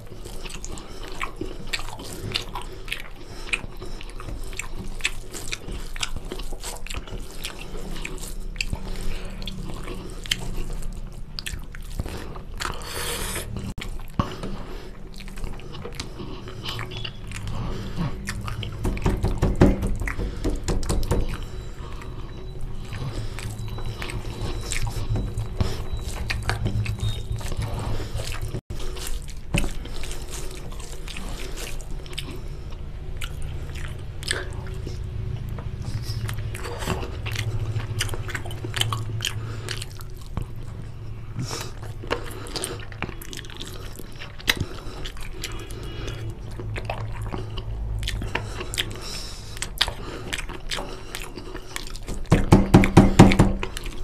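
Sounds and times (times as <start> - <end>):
wet squishing of rice: 0.0 - 18.9, 21.5 - 52.4
chewing and lip smacks: 0.0 - 53.0, 53.6 - 54.0.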